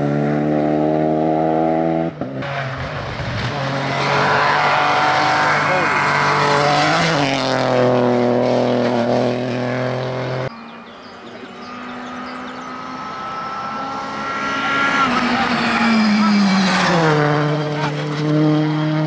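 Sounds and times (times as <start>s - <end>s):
rally car engine approaching: 0.0s - 19.0s
rally car engine passing: 0.0s - 19.0s.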